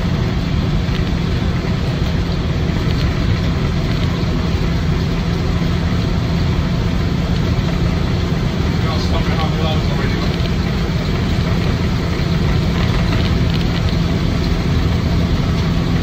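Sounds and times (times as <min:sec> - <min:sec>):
car engine droning inside cab: 0:00.0 - 0:16.0.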